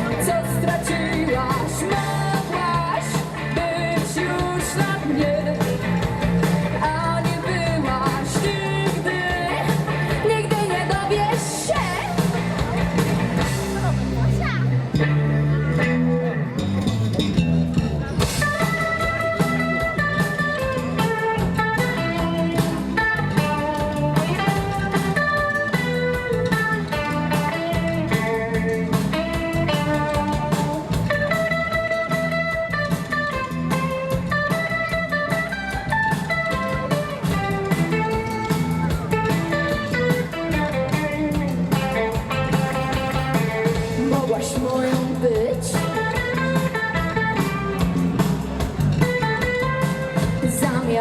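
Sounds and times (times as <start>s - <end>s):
bass guitar: 0.0s - 51.0s
drums: 0.0s - 51.0s
electric guitar lead: 0.0s - 51.0s.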